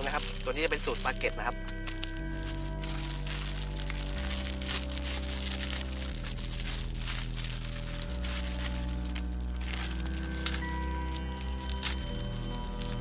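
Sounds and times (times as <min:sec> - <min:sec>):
background music: 0:00.0 - 0:13.0
plastic bag crinkling: 0:00.0 - 0:13.0.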